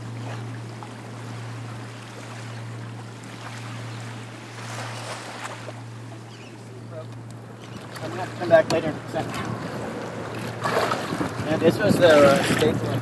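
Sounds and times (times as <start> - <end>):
low hum: 0.0 - 13.0
rush of water: 0.0 - 13.0
waves lapping: 0.0 - 13.0.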